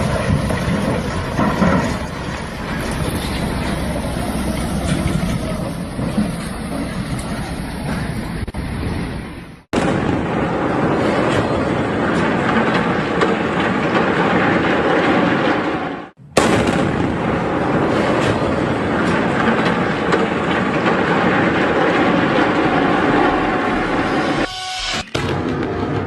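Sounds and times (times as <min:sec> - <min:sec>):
building demolition crashing: 0:00.0 - 0:08.4, 0:09.8 - 0:26.0.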